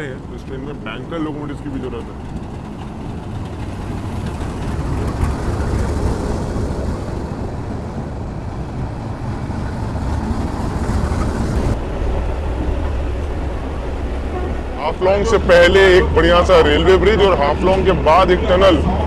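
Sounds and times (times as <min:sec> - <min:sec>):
train rumbling and rattling: 0:00.0 - 0:19.0.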